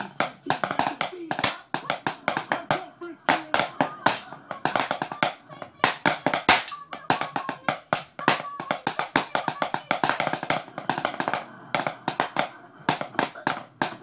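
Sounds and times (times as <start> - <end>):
drumsticks striking a book: 0.0 - 14.0.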